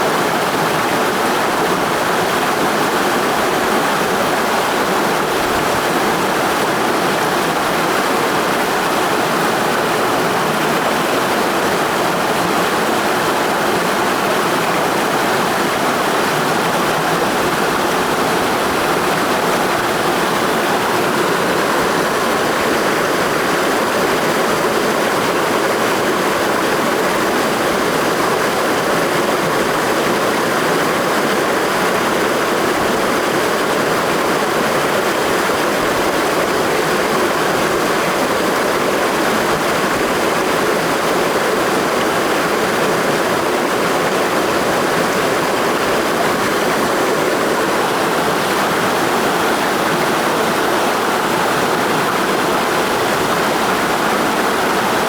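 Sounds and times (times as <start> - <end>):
mountain stream flowing: 0.0 - 55.0.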